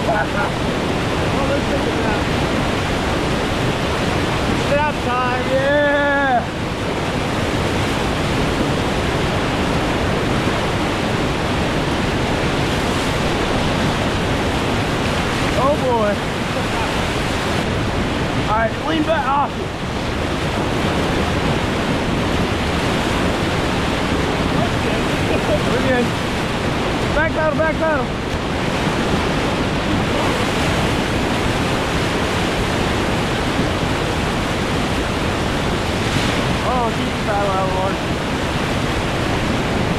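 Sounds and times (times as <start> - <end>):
whitewater rushing: 0.0 - 39.9.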